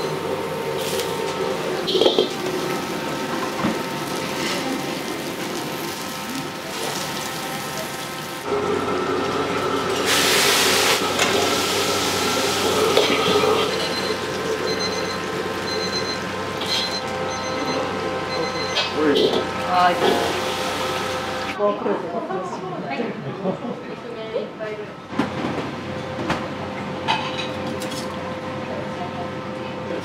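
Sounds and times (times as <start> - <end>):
wok burners and extraction roar: 0.0 - 30.0.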